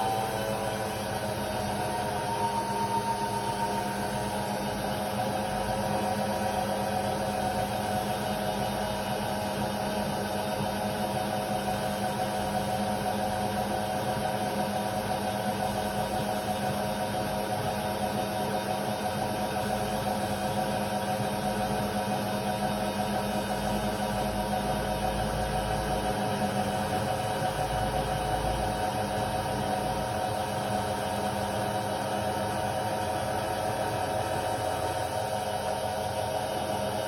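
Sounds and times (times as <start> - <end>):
washer-dryer motor hum: 0.0 - 37.0.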